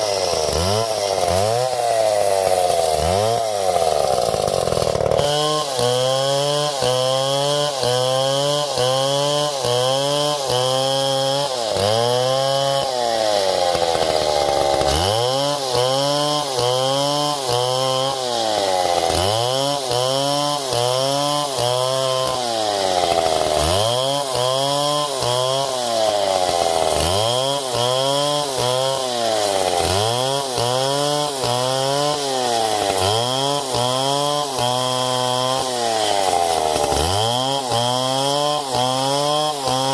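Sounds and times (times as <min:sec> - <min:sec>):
chainsaw engine running hard: 0:00.0 - 0:39.9.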